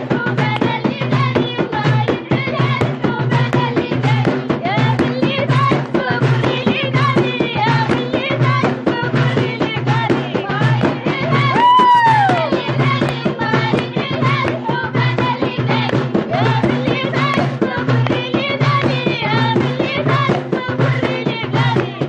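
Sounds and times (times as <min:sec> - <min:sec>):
fast percussion beat: 0:00.0 - 0:22.0.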